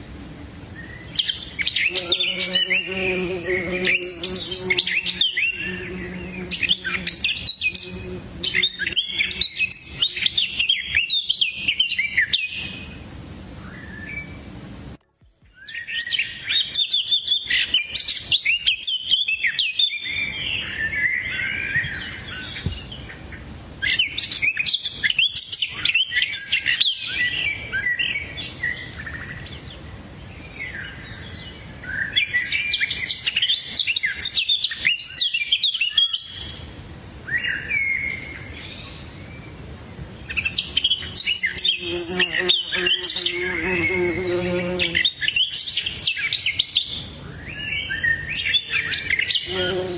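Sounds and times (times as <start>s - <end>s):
small songbirds chirping and trilling: 0.0s - 14.5s, 15.2s - 49.9s.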